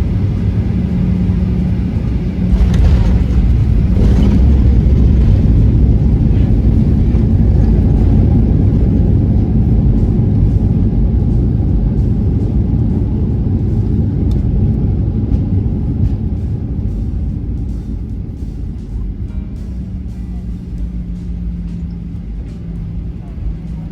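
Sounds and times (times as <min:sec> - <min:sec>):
airliner cabin rumble: 0:00.0 - 0:23.9.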